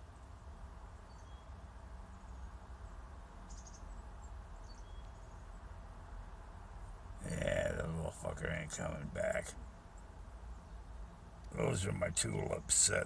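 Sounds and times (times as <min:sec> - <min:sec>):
distant small birds chirping: 0:00.0 - 0:13.0.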